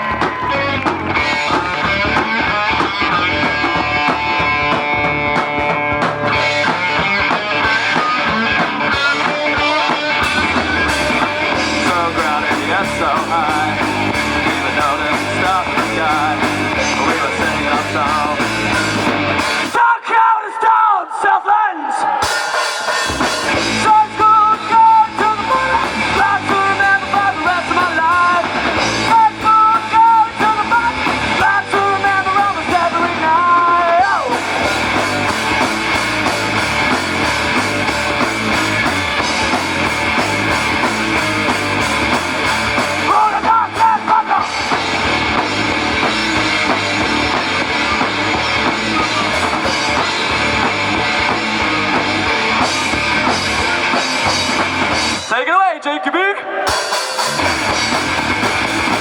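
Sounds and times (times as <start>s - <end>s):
drum kit: 0.0s - 19.8s, 22.1s - 55.4s, 56.6s - 59.0s
distorted electric guitars: 0.0s - 20.0s, 22.1s - 55.5s, 56.4s - 59.0s.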